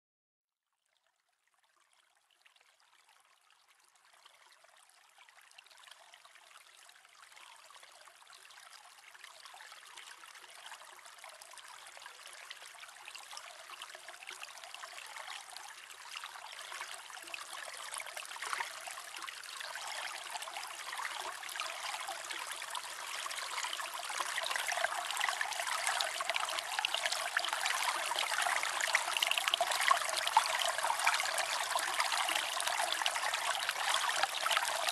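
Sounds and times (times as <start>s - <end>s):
aquarium water trickling and splashing: 0.7s - 34.9s.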